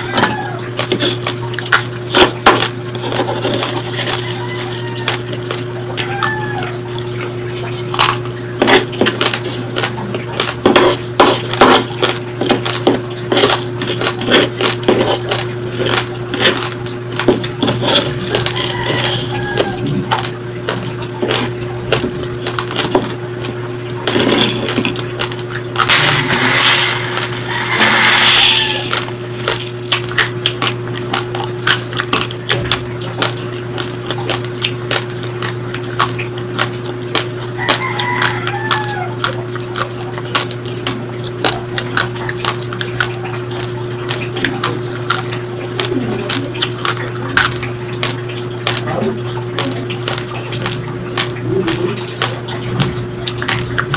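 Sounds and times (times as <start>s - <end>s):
raw rice being chewed: 0.0s - 53.9s.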